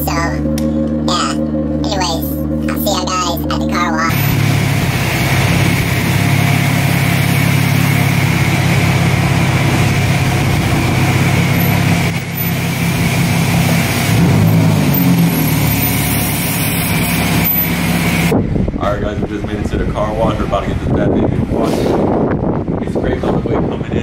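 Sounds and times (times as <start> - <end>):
car engine drone: 0.0 - 24.0.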